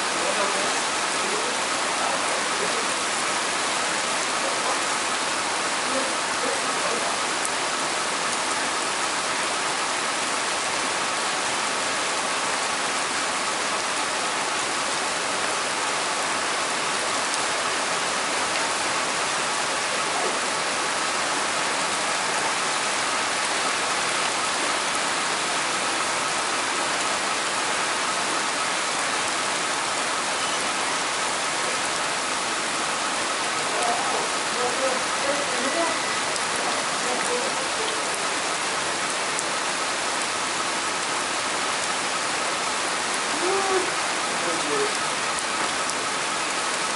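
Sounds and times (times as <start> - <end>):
torrential rain pouring: 0.0 - 46.9.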